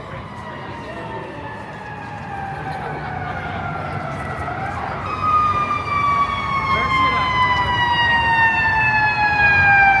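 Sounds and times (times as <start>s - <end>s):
emergency siren wailing: 0.0s - 10.0s
street traffic: 0.0s - 10.0s.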